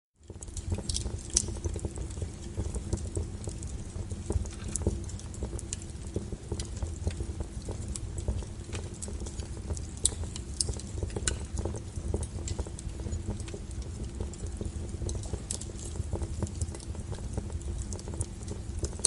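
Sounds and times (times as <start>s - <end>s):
fire crackling and popping: 0.2s - 19.0s
low rumble of fire: 0.2s - 19.0s.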